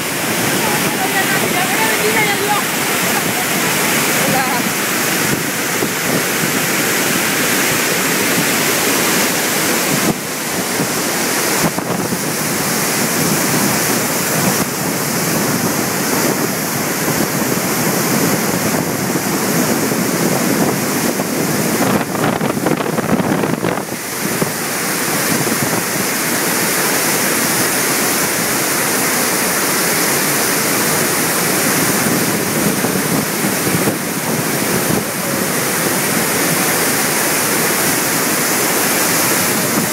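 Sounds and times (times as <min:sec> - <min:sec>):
floodwater rushing through a dam: 0:00.0 - 0:39.9.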